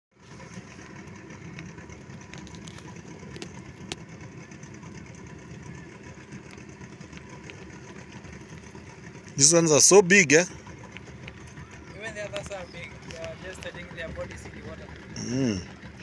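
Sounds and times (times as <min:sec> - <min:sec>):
outboard motor idling: 0:00.1 - 0:16.0.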